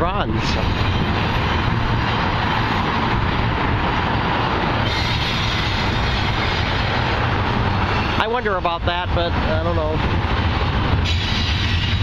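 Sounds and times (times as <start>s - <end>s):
freight train wheels clattering: 0.0s - 12.0s.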